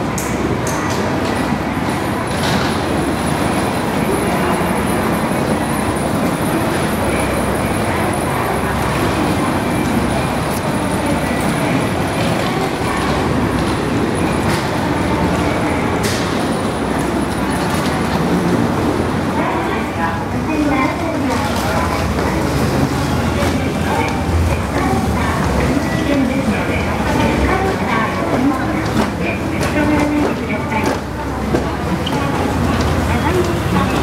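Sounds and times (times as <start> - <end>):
indistinct crowd voices: 0.0 - 34.0
train and platform noise: 0.0 - 34.0.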